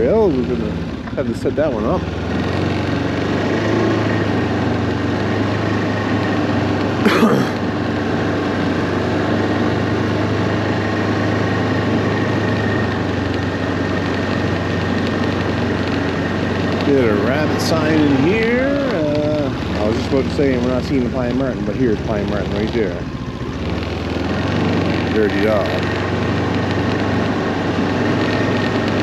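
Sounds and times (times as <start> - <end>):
snowmobile engine running: 0.0 - 29.0.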